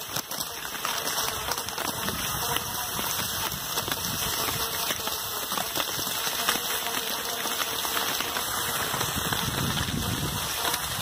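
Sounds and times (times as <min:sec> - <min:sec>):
crunch of travel on snow: 0:00.0 - 0:11.0.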